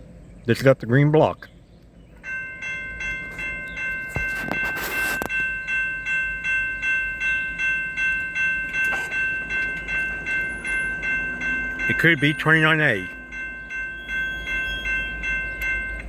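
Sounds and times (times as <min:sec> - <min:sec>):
crossing bell ringing: 0:02.1 - 0:16.0.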